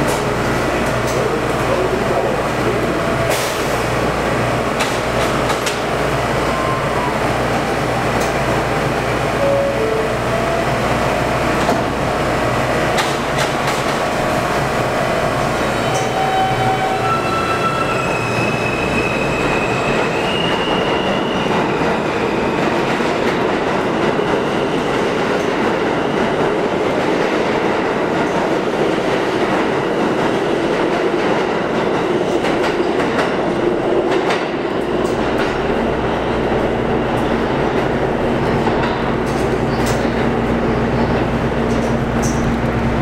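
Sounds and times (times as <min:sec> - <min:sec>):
train cars rumbling over rails: 0:00.0 - 0:43.0.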